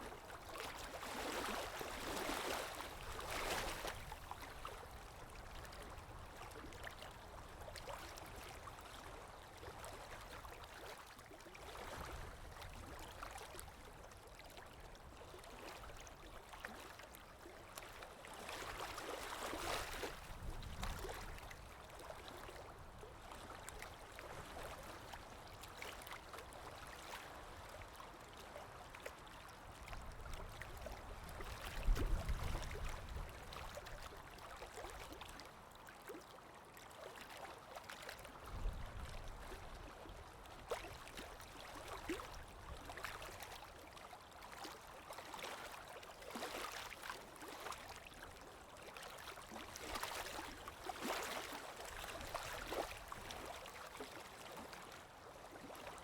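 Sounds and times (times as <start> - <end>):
water lapping: 0.0 - 56.0
wind: 0.0 - 56.0.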